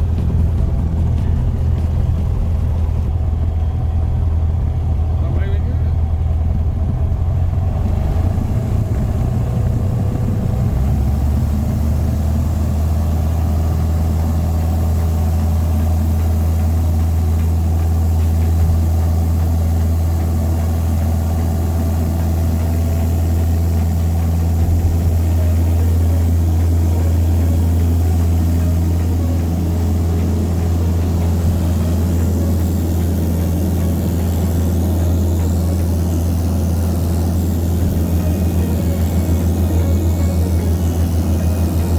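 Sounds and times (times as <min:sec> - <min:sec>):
airplane engine drone in cabin: 0:00.0 - 0:41.9.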